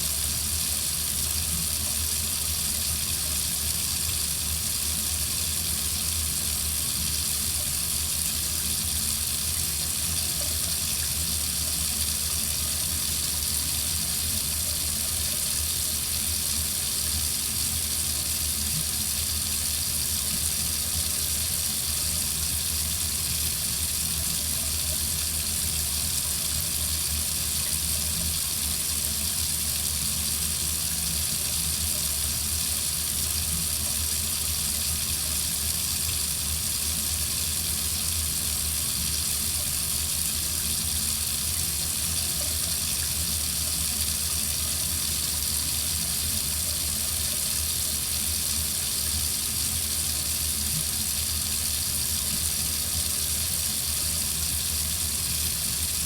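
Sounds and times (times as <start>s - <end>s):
water faucet running: 0.0s - 56.0s.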